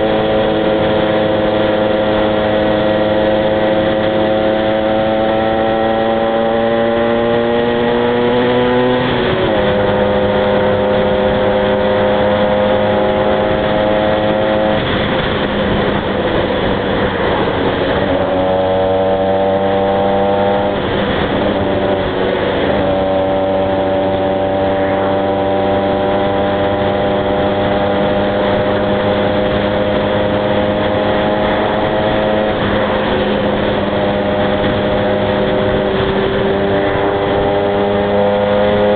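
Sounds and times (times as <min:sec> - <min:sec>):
rushing wind noise: 0:00.0 - 0:38.9
two-stroke motorcycle engine: 0:00.0 - 0:38.9.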